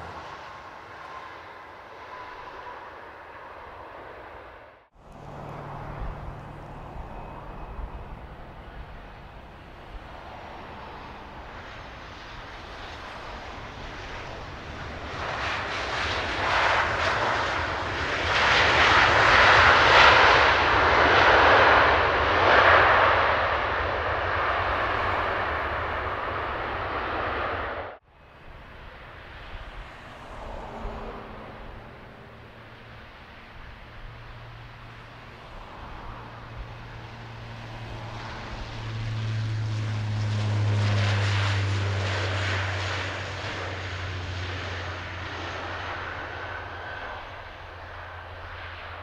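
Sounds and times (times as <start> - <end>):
aircraft engine passing by: 0.0 - 49.0.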